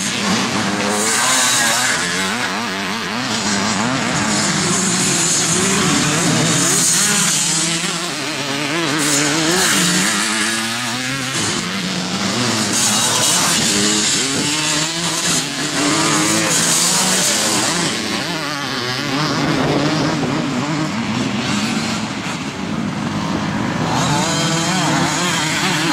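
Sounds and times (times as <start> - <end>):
motocross bike engines revving: 0.0 - 25.9.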